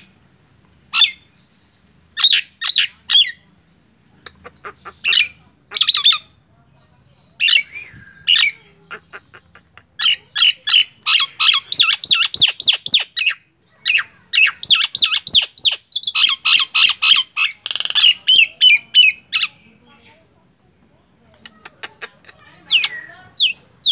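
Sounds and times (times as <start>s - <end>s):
myna bird calling: 0.0s - 20.4s, 21.1s - 23.9s.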